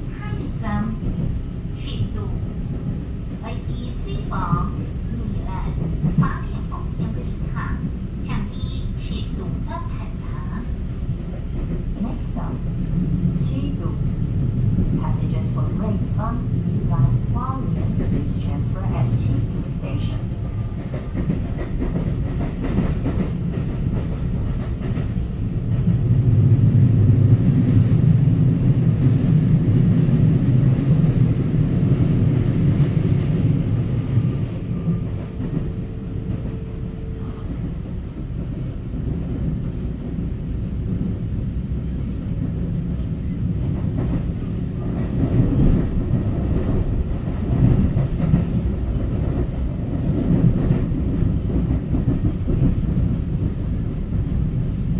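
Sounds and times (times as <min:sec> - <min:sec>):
train wheels rumbling on track: 0:00.0 - 0:54.9.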